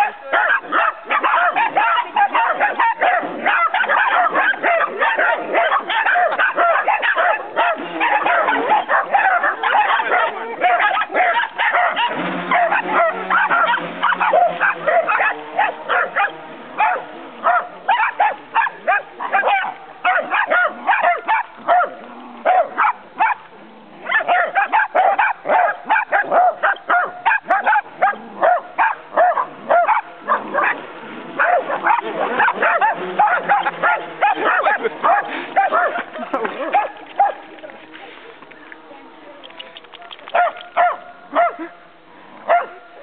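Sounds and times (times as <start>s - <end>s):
dogs barking and yipping: 0.0s - 37.8s, 39.5s - 43.0s.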